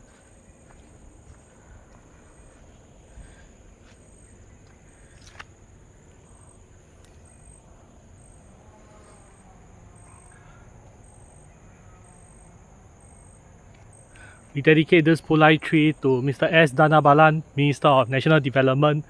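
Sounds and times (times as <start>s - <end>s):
insect chirp pulsing: 0.0s - 19.0s
insects buzzing: 0.0s - 19.0s.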